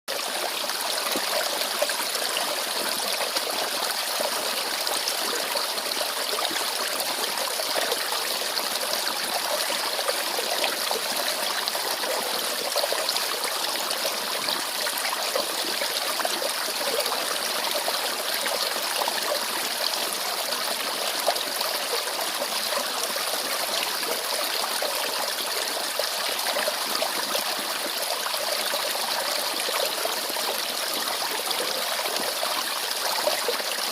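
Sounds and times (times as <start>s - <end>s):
stream trickling: 0.1s - 33.9s.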